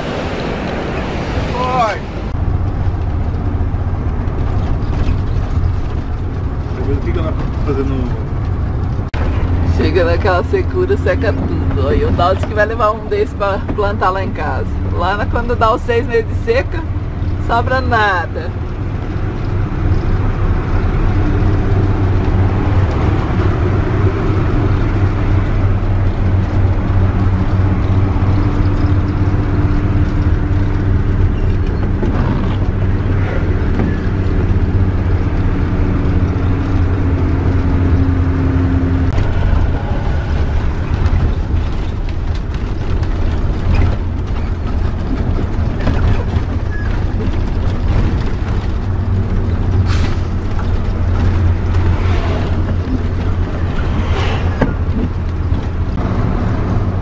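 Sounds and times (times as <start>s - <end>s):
engine and road drone: 0.0s - 57.0s.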